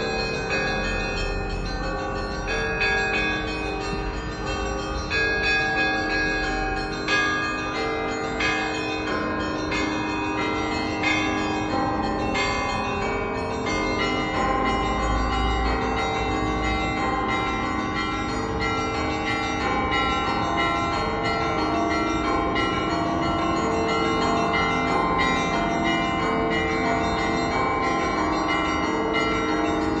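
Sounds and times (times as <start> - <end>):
church bells pealing: 0.0 - 30.0.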